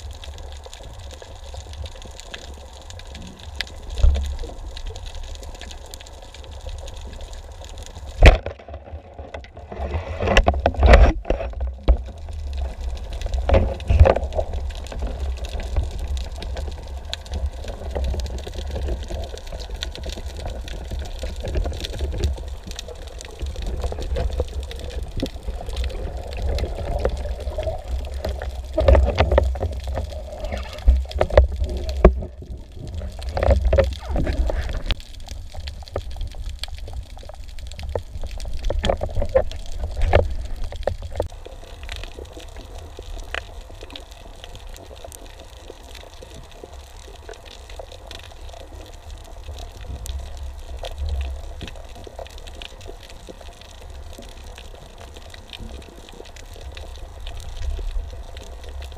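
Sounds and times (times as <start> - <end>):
knocks and clicks underwater: 0.0 - 58.9
underwater rumble and bubbling: 0.0 - 58.9.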